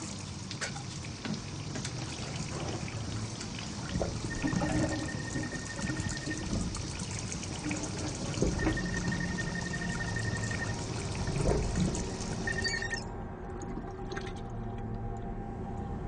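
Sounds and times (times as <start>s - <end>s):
faucet running into sink: 0.0s - 13.0s.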